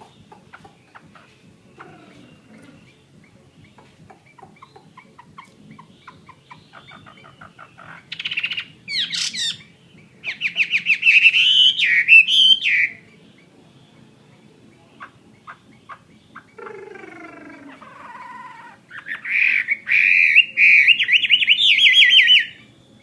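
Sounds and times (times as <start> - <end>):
bird trills and whistled notes: 0.0 - 16.8, 18.9 - 23.0.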